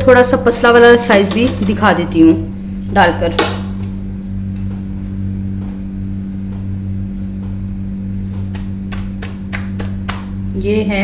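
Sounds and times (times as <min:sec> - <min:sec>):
appliance motor humming: 0:00.0 - 0:11.0.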